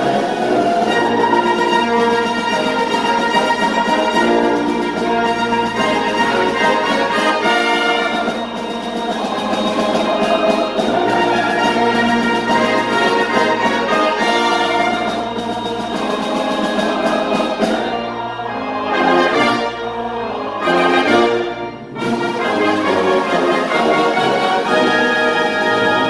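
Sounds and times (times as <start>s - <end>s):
brass instruments: 0.0s - 26.0s
choir singing: 0.0s - 26.0s.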